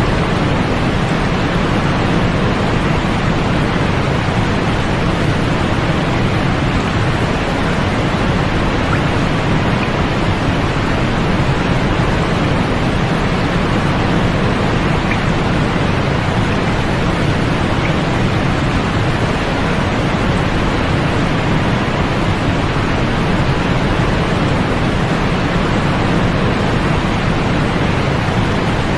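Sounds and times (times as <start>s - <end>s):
white noise hiss: 0.0s - 28.9s.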